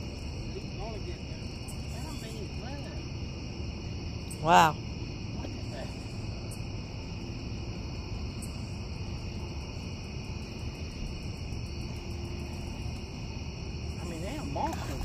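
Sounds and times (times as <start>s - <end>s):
night insects calling: 0.0s - 15.0s.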